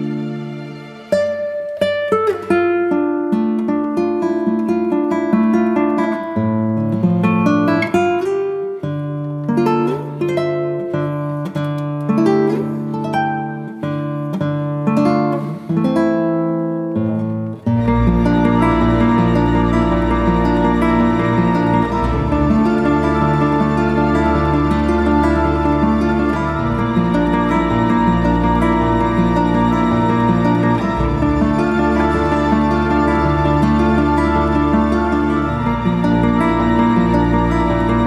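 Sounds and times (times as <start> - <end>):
guitar plucking notes and chords: 0.0 - 38.0.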